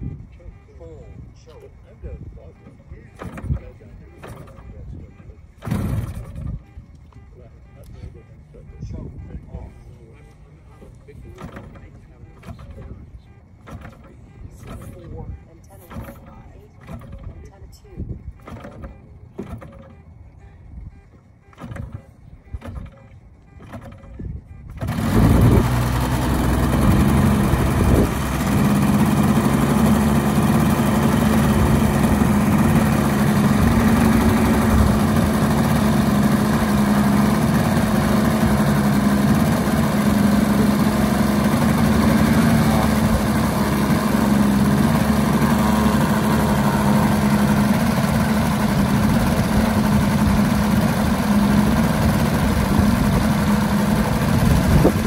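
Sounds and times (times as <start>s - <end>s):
model plane engine idling: 0.8s - 55.0s.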